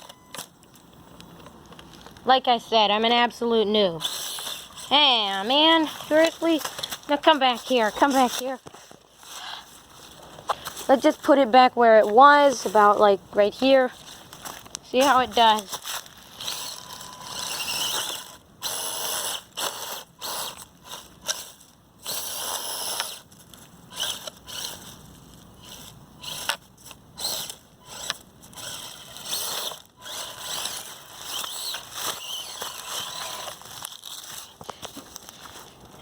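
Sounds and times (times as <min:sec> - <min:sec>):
electric motor and gears whirring: 0:00.0 - 0:36.0.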